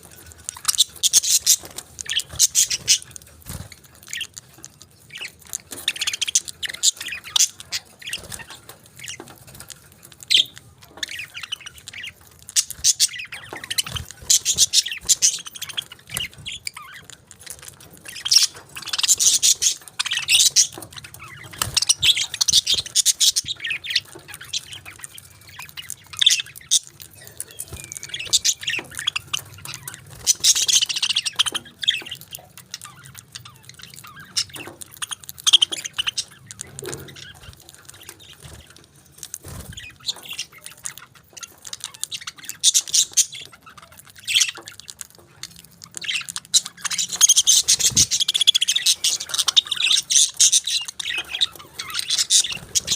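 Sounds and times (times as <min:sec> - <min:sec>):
parakeets chirping: 0:00.0 - 0:52.9.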